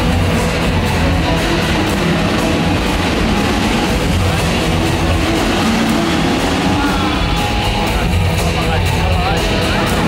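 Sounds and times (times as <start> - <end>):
loud rock music from speakers: 0.0 - 10.0
motorcycle engines running: 0.0 - 10.0.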